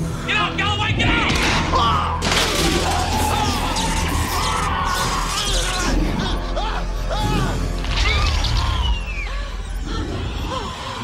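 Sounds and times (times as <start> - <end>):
dramatic film music: 0.0 - 11.0.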